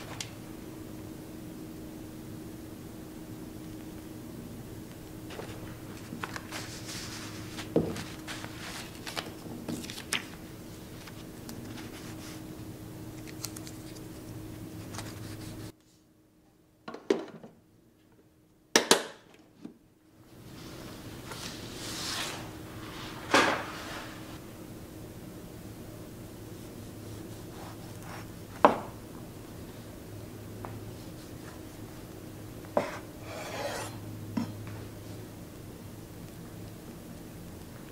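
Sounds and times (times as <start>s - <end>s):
low room hum: 0.0s - 37.9s.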